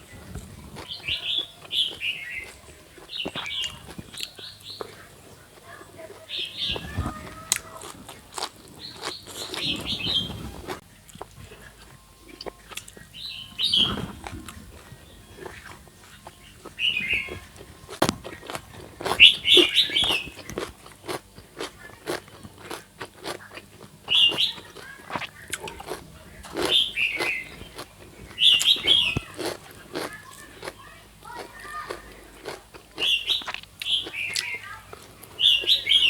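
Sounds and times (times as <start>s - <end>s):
crunching and chewing vegetables: 0.0s - 36.0s.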